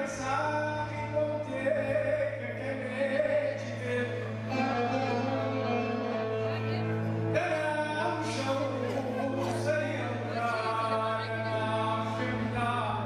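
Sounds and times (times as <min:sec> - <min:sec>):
man singing into microphone: 0:00.0 - 0:06.4, 0:07.2 - 0:13.0
keyboard accompaniment: 0:00.0 - 0:13.0.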